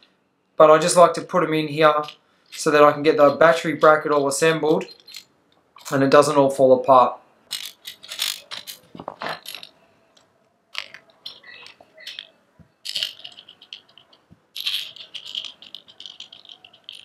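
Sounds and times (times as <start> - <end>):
small metal parts clinking: 1.8 - 6.2, 7.5 - 17.0.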